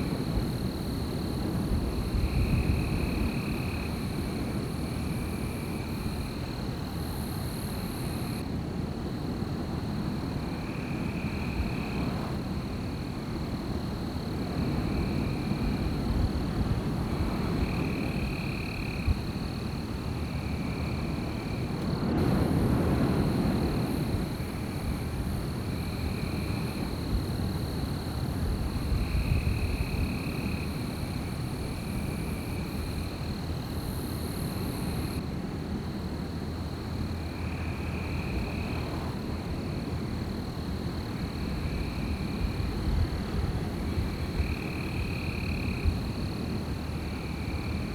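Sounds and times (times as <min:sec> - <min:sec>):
wind blowing in gusts: 0:00.0 - 0:47.9.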